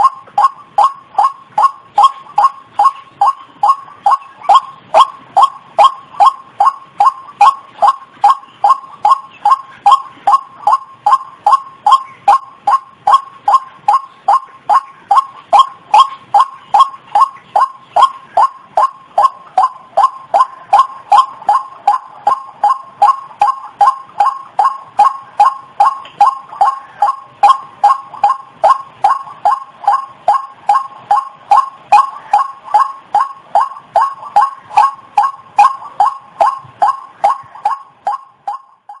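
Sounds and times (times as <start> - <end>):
repeated short bird call: 0.0 - 39.0.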